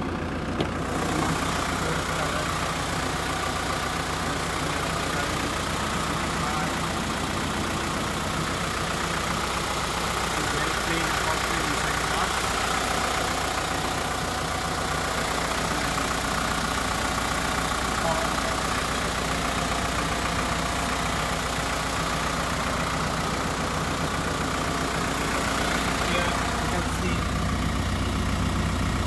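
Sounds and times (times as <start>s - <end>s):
diesel bus engine idling: 0.0s - 29.0s.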